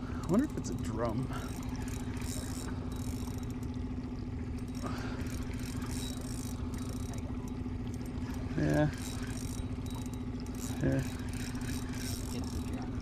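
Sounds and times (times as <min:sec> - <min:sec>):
outboard motor humming: 0:00.0 - 0:13.0.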